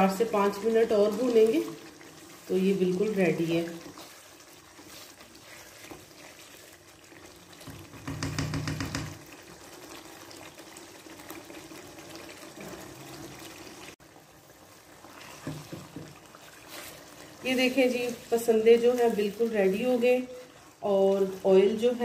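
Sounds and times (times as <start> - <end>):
sauce sizzling in a frying pan: 0.0 - 22.0.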